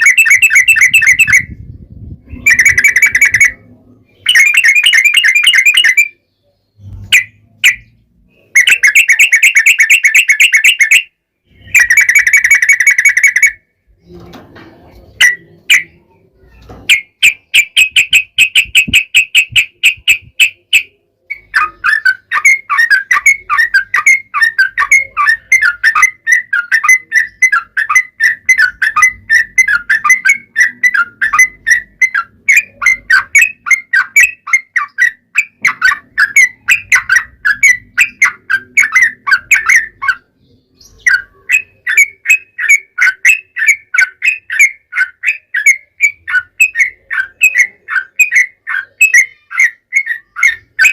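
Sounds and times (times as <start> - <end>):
bulbul chattering song: 0.0 - 14.2, 15.0 - 50.9.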